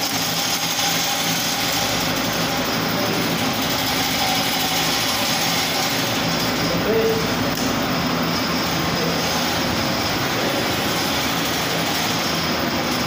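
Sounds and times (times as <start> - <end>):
air compressor running: 0.0 - 13.0.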